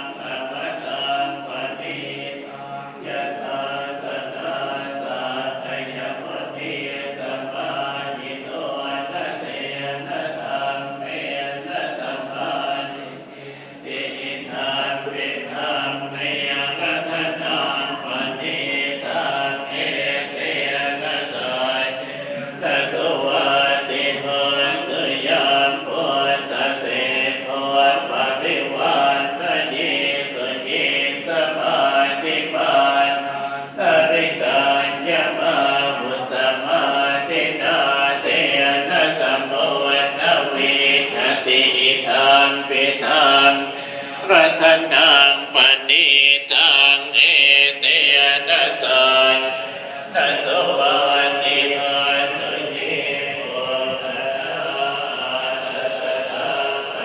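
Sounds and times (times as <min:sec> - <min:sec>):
monks chanting in unison: 0:00.0 - 0:57.0.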